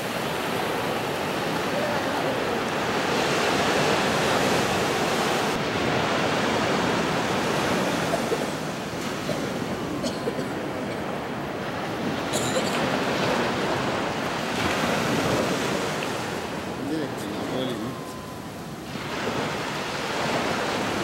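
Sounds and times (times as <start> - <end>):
surf washing up a beach: 0.0 - 21.0.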